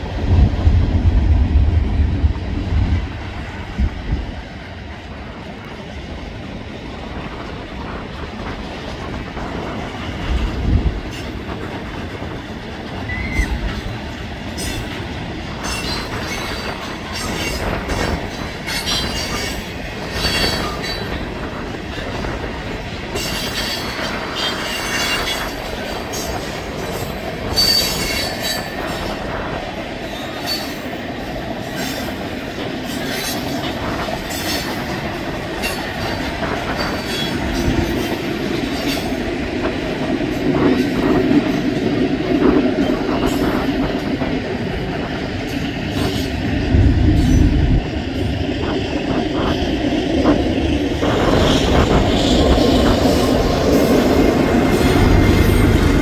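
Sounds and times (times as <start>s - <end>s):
train cars clattering over rails: 2.2s - 56.0s.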